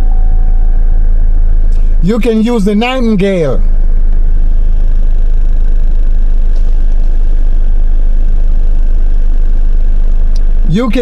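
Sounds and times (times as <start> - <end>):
loud low rumble: 0.0 - 11.0.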